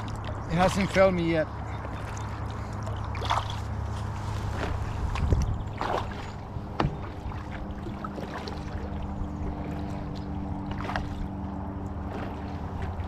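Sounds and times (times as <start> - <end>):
low steady hum: 0.0 - 13.0
paddle splashes and drips: 0.0 - 13.0.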